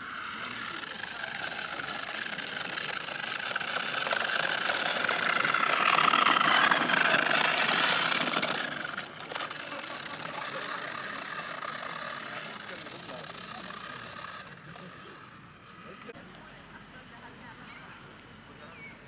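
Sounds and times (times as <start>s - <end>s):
model van on concrete: 0.0s - 19.0s.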